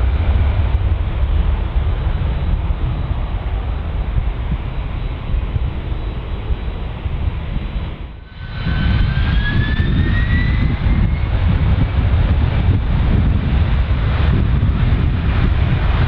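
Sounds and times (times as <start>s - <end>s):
jet engine whine: 0.0s - 16.0s
jet engines rumbling: 0.0s - 16.0s.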